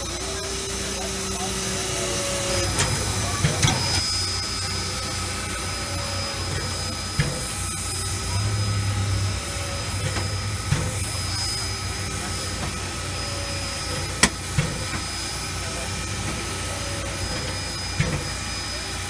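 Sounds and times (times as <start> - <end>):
steam locomotive hissing: 0.0 - 19.0
thin high whine: 0.0 - 19.0.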